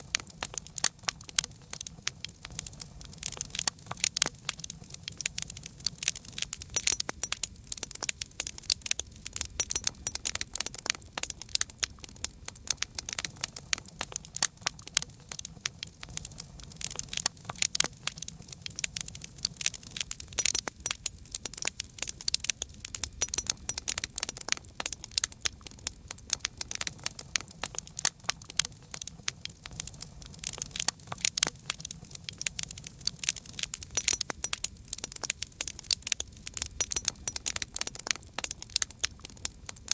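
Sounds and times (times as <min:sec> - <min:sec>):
campfire crackling: 0:00.0 - 0:39.9
low rumble of flames: 0:00.0 - 0:39.9.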